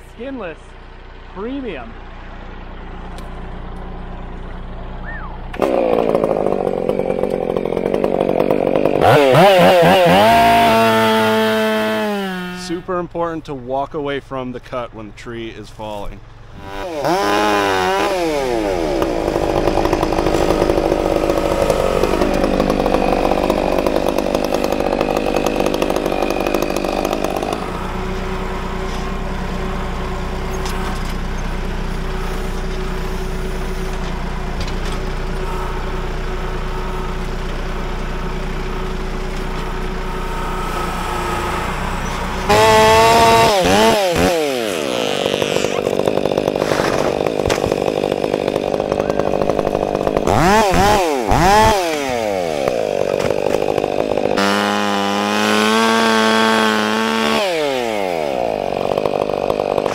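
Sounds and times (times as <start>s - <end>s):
chainsaw running: 0.8s - 12.9s, 16.4s - 59.9s.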